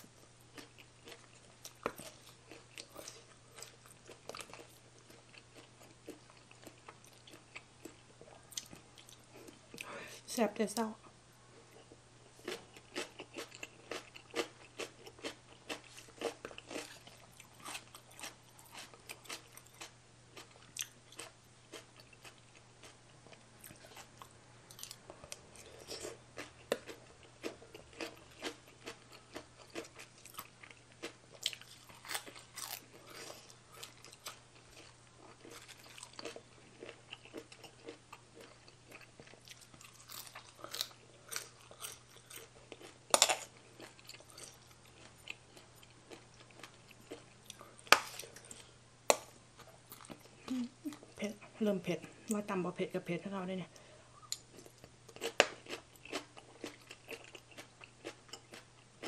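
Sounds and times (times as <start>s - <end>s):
person chewing and crunching food: 0.0s - 10.0s, 11.6s - 52.4s, 53.8s - 59.0s.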